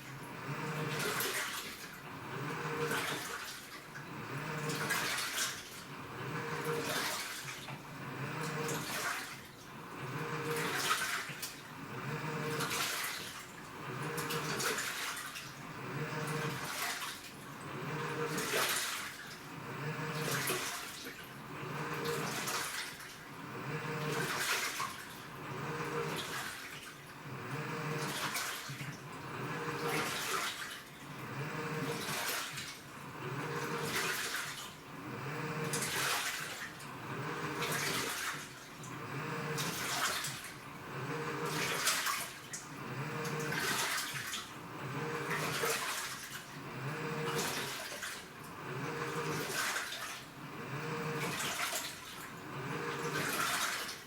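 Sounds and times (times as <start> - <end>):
washing machine motor humming: 0.0 - 54.0
water sloshing in washing machine: 0.0 - 54.0.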